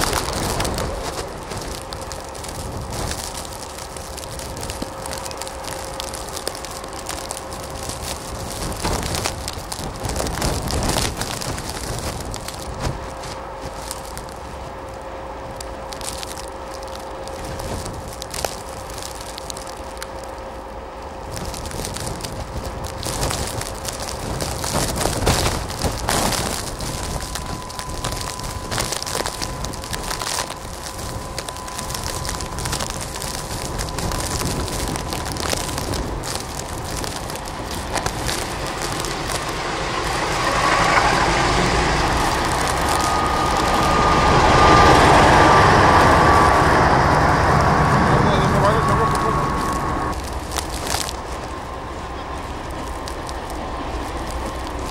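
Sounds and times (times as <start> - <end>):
wind buffeting microphone: 0.0 - 16.0, 16.6 - 54.9
diesel locomotive running: 0.0 - 54.9.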